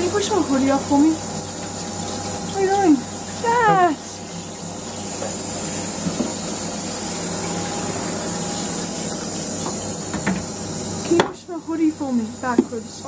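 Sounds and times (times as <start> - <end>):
water spraying: 0.0 - 13.0.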